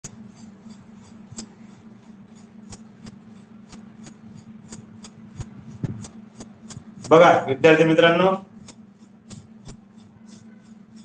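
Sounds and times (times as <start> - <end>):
motor humming with regular ticking: 0.0 - 11.0.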